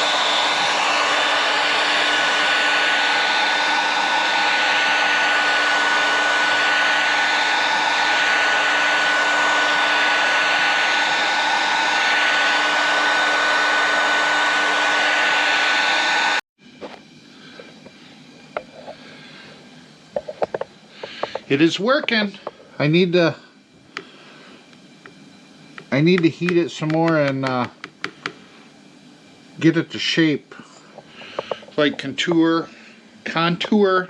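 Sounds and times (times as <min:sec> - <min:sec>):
heat gun fan whine: 0:00.0 - 0:34.0.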